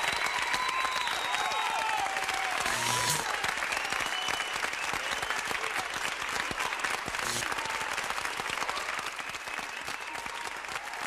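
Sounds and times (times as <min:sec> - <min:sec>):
crowd clapping: 0:00.0 - 0:11.0.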